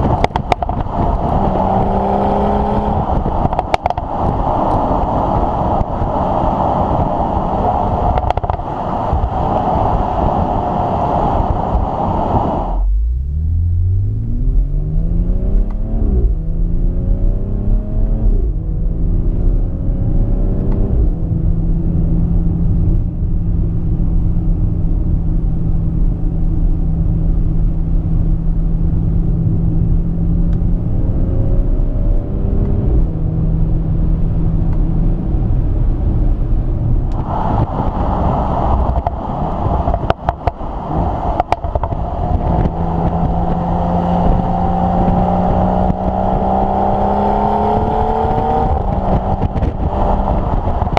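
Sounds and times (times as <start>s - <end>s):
car engine running while driving: 0.0s - 50.9s.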